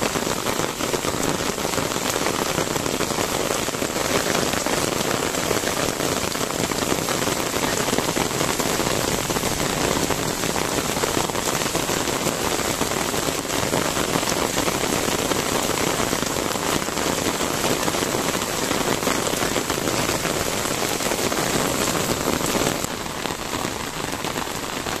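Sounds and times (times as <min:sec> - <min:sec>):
rain on wet concrete and plants: 0:00.0 - 0:25.0.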